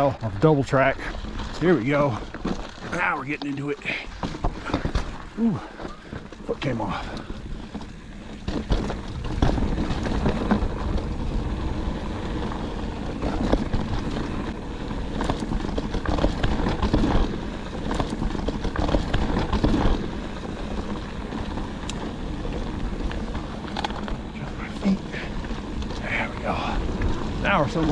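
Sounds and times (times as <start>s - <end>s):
bike rattling over bumps: 0.0s - 27.9s
bike tyres crunching on dirt: 0.0s - 27.9s
wind buffeting microphone: 3.8s - 27.9s.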